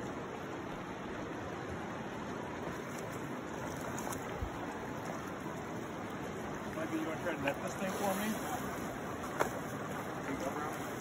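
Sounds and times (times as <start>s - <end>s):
river rushing over gravel: 0.0s - 11.0s.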